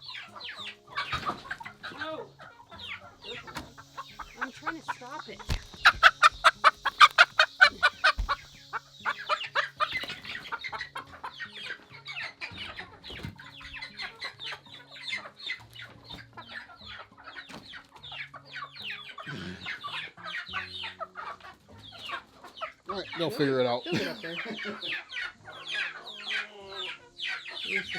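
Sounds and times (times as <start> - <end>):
young chickens peeping: 0.0 - 23.5, 24.3 - 27.9.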